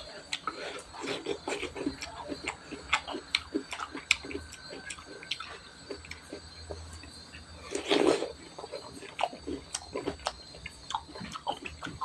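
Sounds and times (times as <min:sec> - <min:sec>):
chewing crisp cucumber: 0:00.0 - 0:12.0.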